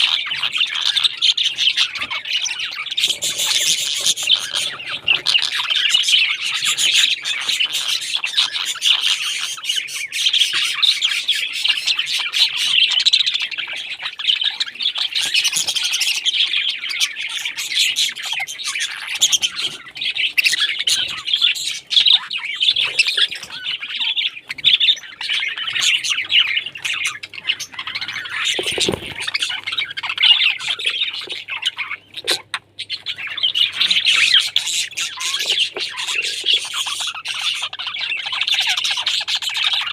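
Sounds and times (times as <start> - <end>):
parrots chattering and squawking: 0.0 - 39.9.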